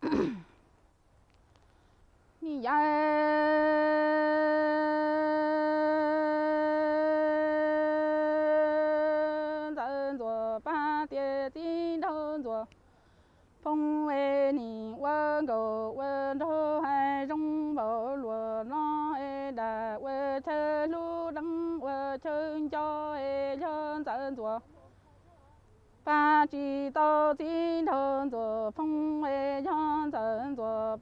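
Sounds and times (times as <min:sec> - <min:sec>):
woman singing unaccompanied: 0:02.4 - 0:12.8, 0:13.5 - 0:31.0.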